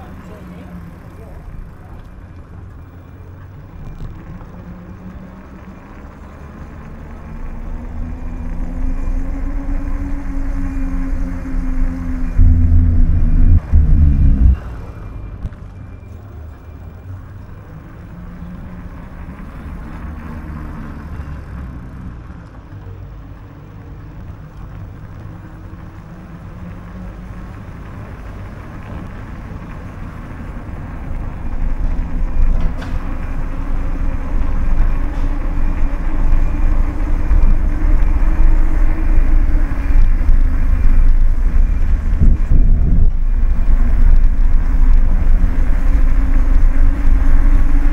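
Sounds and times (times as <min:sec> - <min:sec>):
city traffic rumble: 0:00.0 - 0:47.9.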